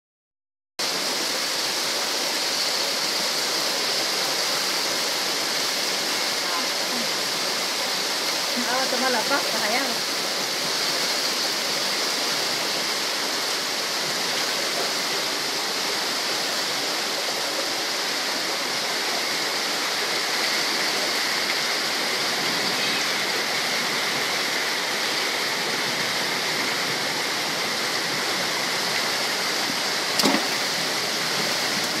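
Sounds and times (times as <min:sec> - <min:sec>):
stream rushing: 0:00.8 - 0:32.0.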